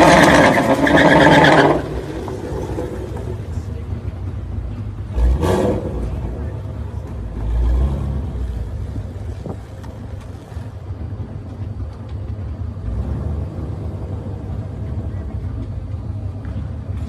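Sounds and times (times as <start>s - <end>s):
car exhaust drone: 0.0s - 17.0s.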